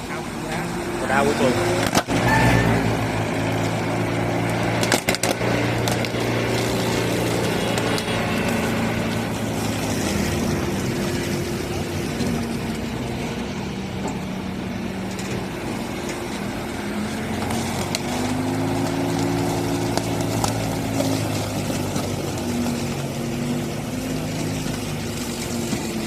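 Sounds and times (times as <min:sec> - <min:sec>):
excavator engine under load: 0:00.0 - 0:26.0
flail mower cutting vegetation: 0:00.0 - 0:26.0.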